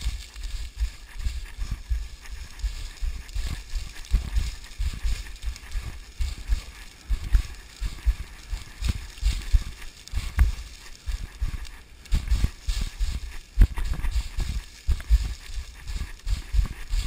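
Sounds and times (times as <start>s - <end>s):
running footfalls on scree: 0.0s - 17.0s
shifting rock crunching: 0.0s - 17.0s.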